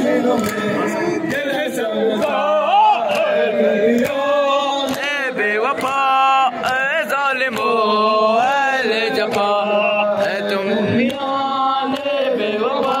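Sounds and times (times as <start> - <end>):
sharp rhythmic beats: 0.0 - 13.0.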